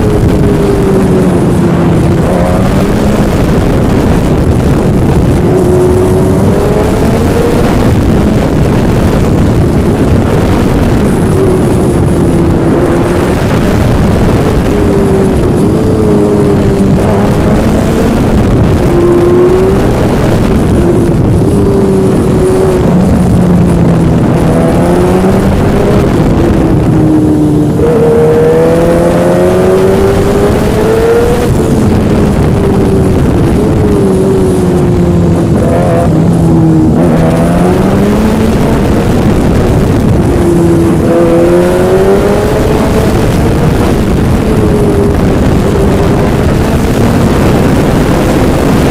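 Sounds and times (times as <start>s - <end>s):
engine revving: 0.0s - 48.9s
wind rush: 0.0s - 48.9s.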